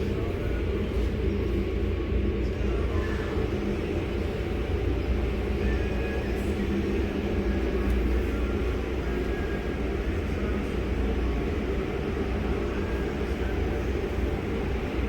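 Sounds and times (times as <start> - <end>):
car wash machinery rumble: 0.0 - 15.0.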